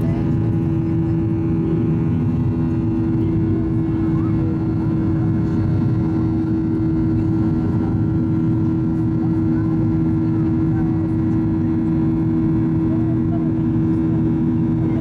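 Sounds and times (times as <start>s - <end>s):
jet engines from cabin: 0.0s - 15.0s.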